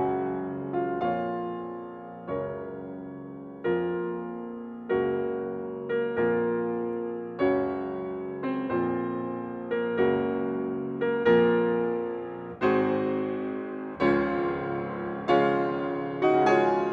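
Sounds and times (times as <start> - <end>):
slow piano chords: 0.0 - 16.9.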